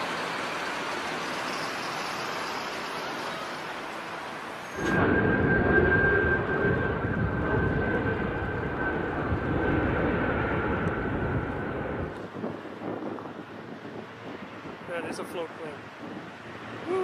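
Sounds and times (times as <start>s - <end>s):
airplane engine whine and rumble: 0.0s - 17.0s.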